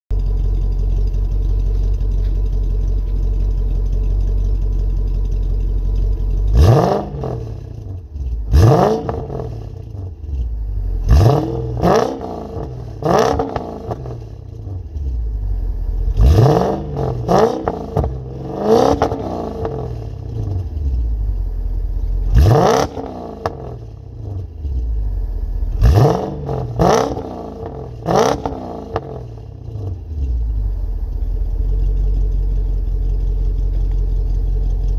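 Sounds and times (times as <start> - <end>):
car engine idling: 0.1 - 34.9
car engine revving: 0.2 - 34.9.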